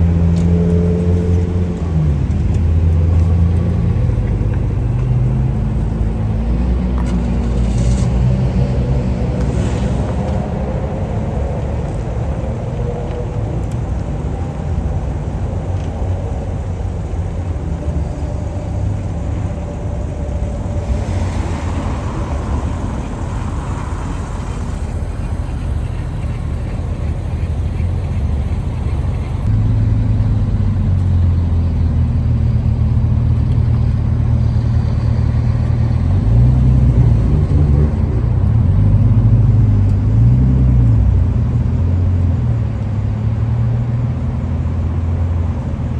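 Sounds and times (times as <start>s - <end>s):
car engines rumbling at low revs: 0.0s - 45.9s
closer car engine revving: 0.0s - 45.9s.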